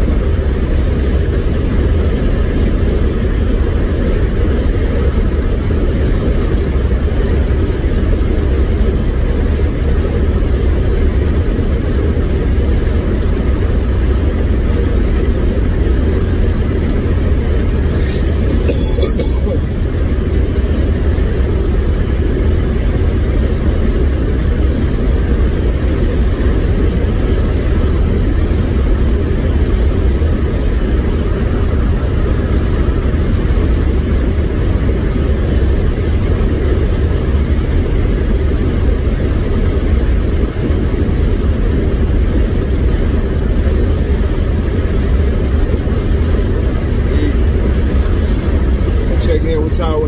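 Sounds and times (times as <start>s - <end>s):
car engine and road drone: 0.0s - 50.0s.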